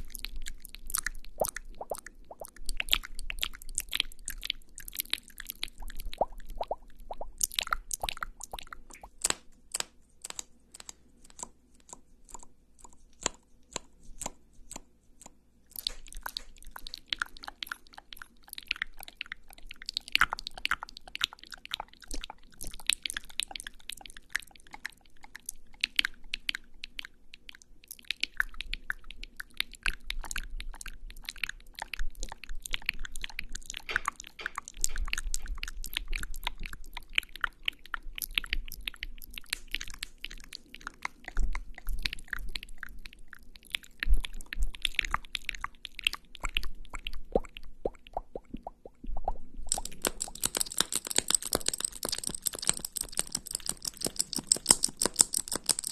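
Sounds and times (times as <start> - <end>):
sticky mouth sounds: 0.0 - 55.9.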